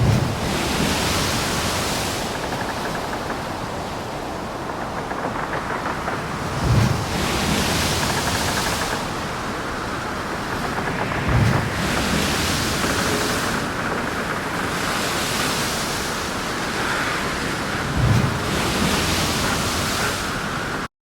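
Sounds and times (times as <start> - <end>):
sea waves rushing: 0.0 - 20.9
wind buffeting microphone: 0.0 - 20.9.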